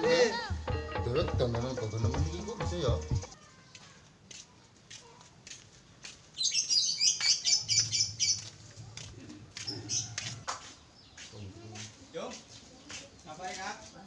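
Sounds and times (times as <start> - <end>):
small birds chirping: 1.4 - 14.0.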